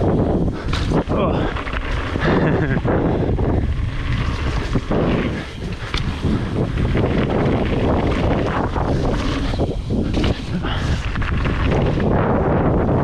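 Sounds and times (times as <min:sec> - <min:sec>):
bike clattering on rough trail: 0:00.0 - 0:13.0
tyre rumble: 0:00.0 - 0:13.0
wind buffeting microphone: 0:00.0 - 0:13.0.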